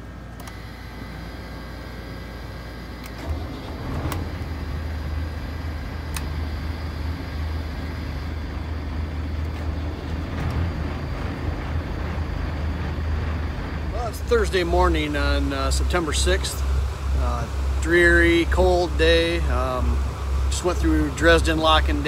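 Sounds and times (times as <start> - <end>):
faint hum: 0.0 - 22.0
diesel engine starting and running: 2.8 - 22.0.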